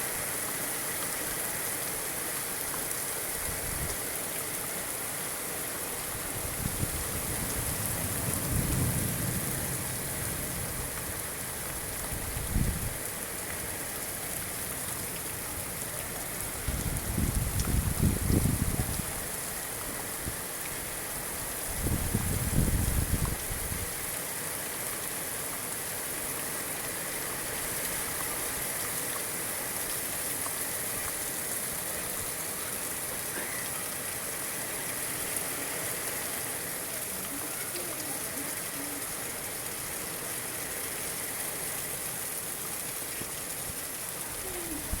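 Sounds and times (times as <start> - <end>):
steady rain falling: 0.0 - 45.0.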